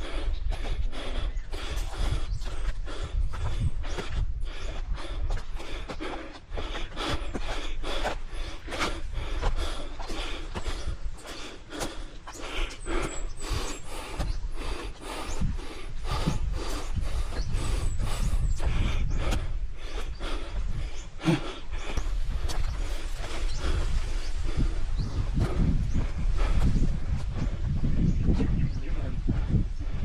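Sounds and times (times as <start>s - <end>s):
footsteps on a trail: 0.0s - 30.0s
low rumble on the microphone: 0.0s - 30.0s
people breathing hard: 0.0s - 30.0s.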